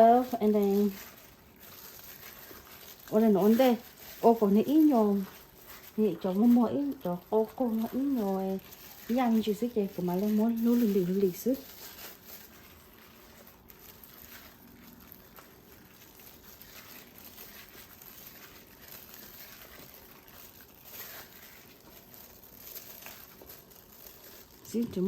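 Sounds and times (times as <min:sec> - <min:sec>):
faint crinkling and handling noises: 0:00.0 - 0:25.0.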